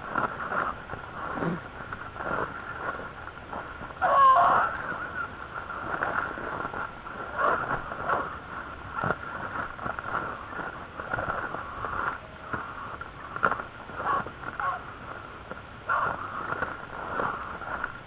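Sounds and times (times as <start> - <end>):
dry scrub rustling and crackling: 0.0 - 18.0.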